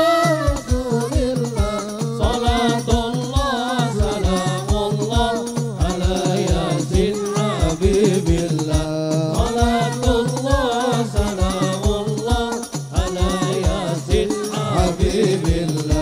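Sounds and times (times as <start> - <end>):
boy singing into a microphone: 0.0 - 16.0
hand drums beating: 0.0 - 16.0.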